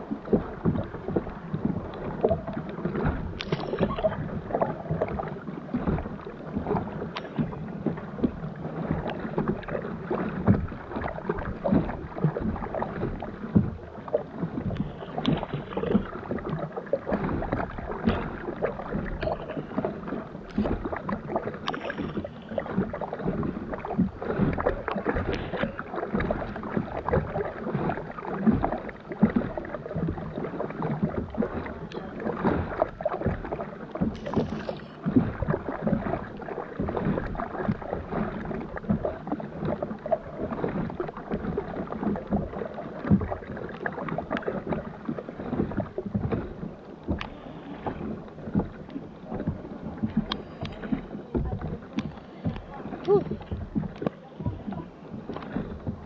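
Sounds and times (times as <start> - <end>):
paddle dipping in water: 0.0 - 56.0
water lapping against hull: 0.0 - 56.0.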